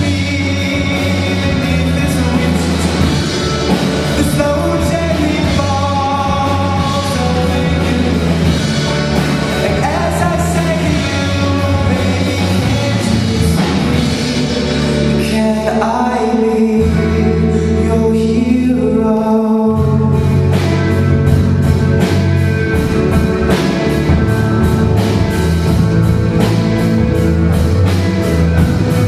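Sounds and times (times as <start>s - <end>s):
person singing: 0.0s - 26.8s
band playing live: 0.0s - 29.0s.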